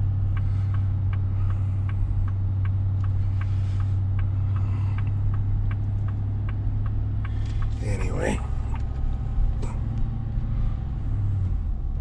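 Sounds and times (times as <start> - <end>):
light ticking: 0.0 - 10.1
engine and road drone: 0.0 - 12.0.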